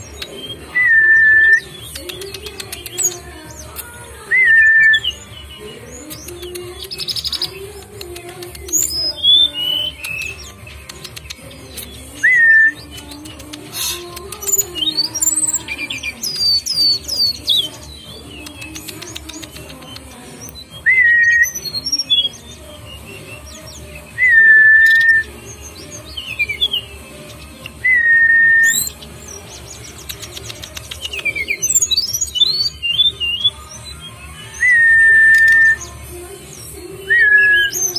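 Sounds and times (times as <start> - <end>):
songbird chirping: 0.0 - 37.9.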